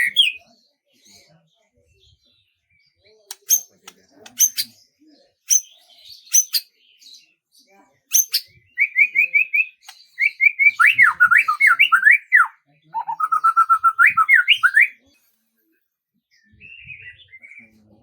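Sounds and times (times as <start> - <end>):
songbird singing: 0.0 - 1.5, 2.1 - 15.1
soft bird chirps: 0.0 - 18.0.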